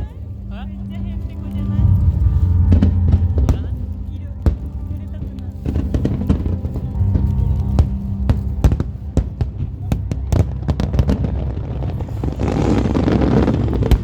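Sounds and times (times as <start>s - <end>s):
fireworks crackling: 0.0s - 14.0s
fireworks bangs: 1.9s - 14.0s.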